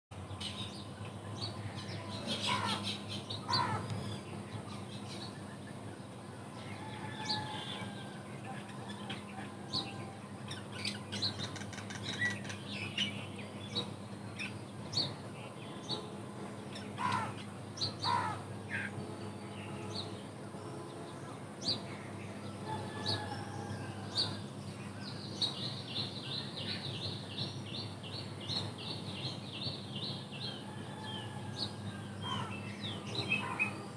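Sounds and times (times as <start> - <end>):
birds chirping: 0.1 - 33.9
bird trill: 1.9 - 5.5, 6.7 - 33.9.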